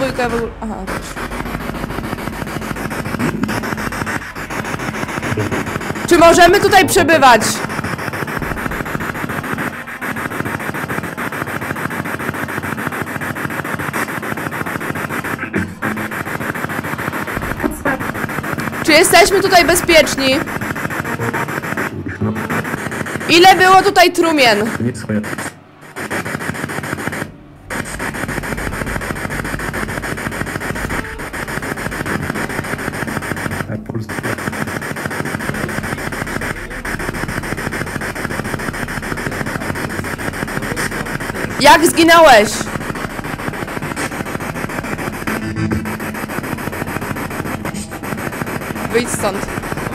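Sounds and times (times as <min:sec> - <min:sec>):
pulsing radio static: 0:00.0 - 0:49.9.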